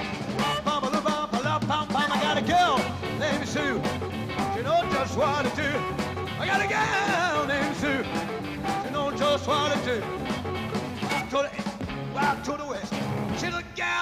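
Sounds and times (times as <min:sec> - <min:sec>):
electric guitar: 0:00.0 - 0:13.5
rock and roll band playing: 0:00.0 - 0:14.0
man singing into a microphone: 0:00.4 - 0:08.2, 0:08.8 - 0:10.2, 0:11.1 - 0:14.0.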